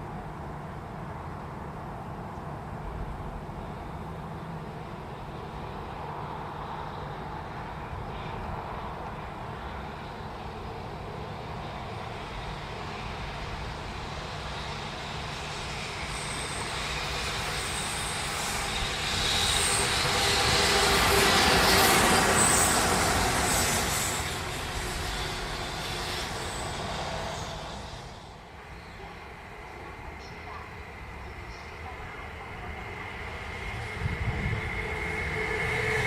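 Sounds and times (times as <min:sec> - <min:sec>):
train passing by: 0:00.0 - 0:36.0.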